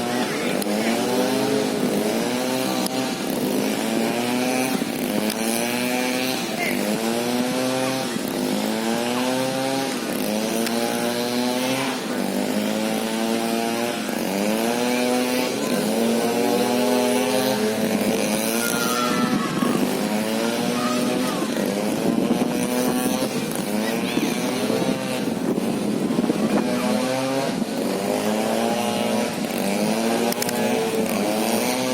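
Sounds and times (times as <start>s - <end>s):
excavator engine working: 0.0s - 31.9s.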